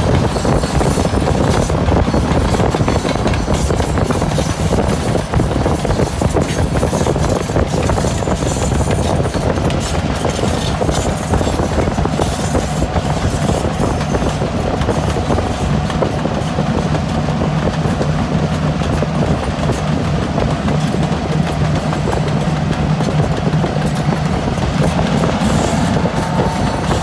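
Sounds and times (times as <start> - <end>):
freight train rumbling: 0.0 - 27.0
train wheels clicking: 0.0 - 27.0.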